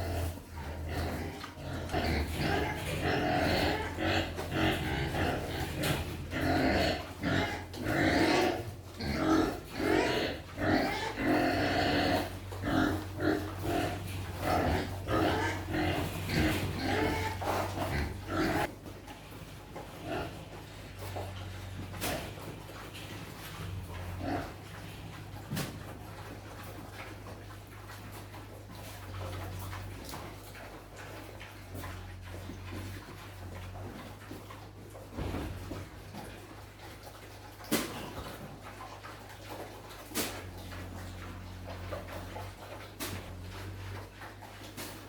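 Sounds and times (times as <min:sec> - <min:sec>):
farm animals calling: 0:00.0 - 0:45.0.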